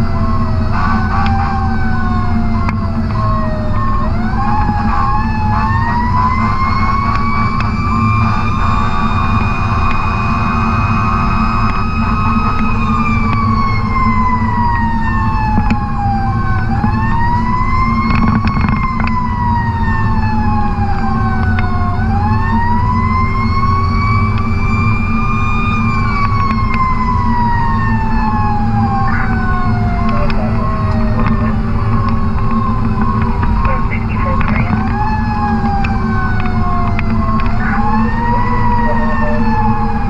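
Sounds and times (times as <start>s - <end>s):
diesel engine hum: 0.0s - 40.0s
fire truck siren wailing: 0.0s - 40.0s.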